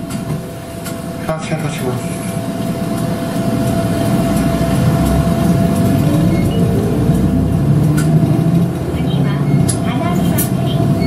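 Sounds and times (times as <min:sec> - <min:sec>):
bus engine and tyre rumble: 0:00.0 - 0:11.0.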